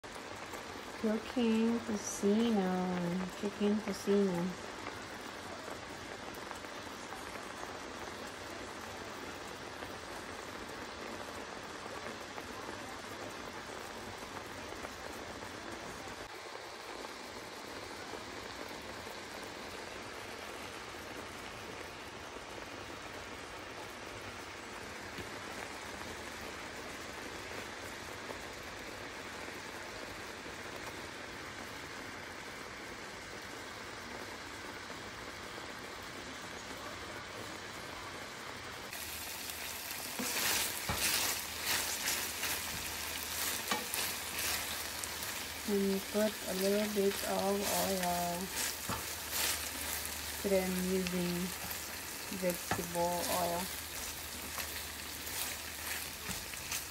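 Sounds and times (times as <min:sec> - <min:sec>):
water bubbling in a frying pan: 0:00.0 - 0:56.9.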